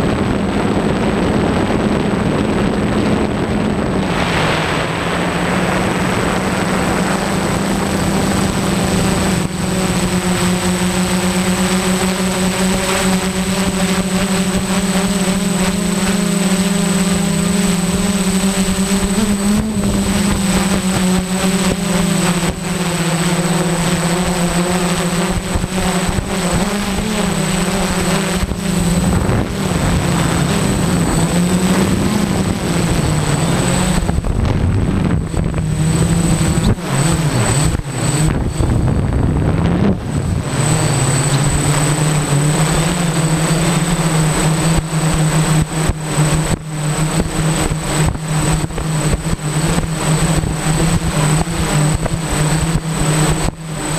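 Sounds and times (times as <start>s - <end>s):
wind buffeting microphone: 0.0s - 53.8s
drone motors droning: 0.0s - 53.9s
thin high whine: 0.0s - 53.9s.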